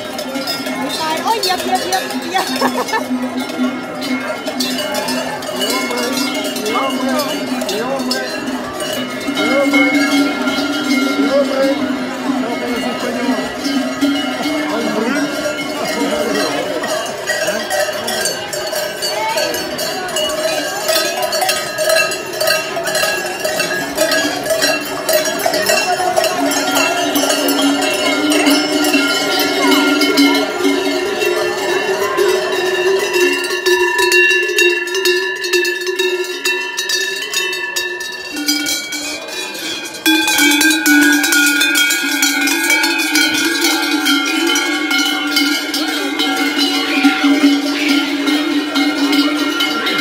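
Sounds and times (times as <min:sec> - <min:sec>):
cowbells clanging: 0:00.0 - 0:50.0.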